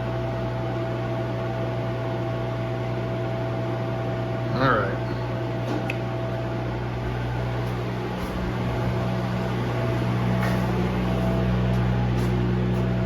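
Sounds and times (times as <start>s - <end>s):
fan noise: 0.0s - 13.0s
milling machine electrical hum: 0.0s - 13.0s.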